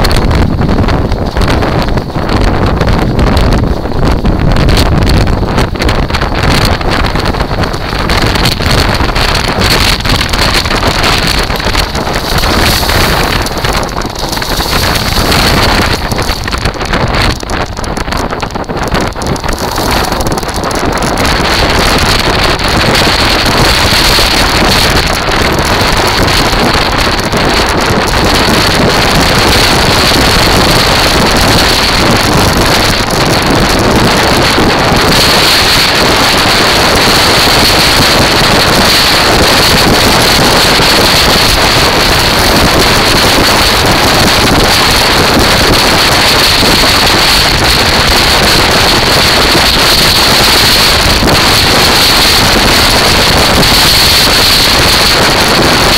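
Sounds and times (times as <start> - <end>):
wheels rolling on shingle: 0.0 - 55.9
wind buffeting microphone: 0.0 - 55.9.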